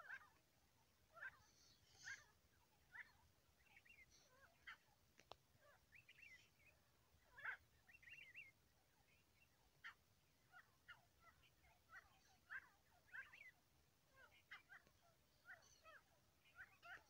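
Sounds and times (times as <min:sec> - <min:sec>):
partridges chirping: 0:00.0 - 0:17.0.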